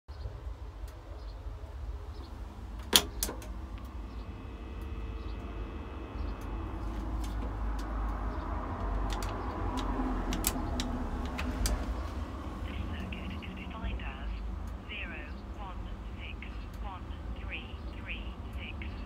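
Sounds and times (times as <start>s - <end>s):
low traffic rumble: 0.1s - 19.0s.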